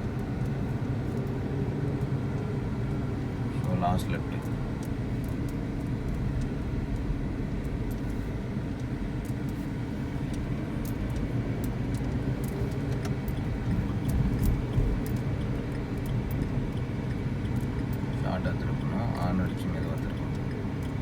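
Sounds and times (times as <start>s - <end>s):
car engine and road rumble: 0.0s - 21.0s
faint ticks: 3.6s - 21.0s.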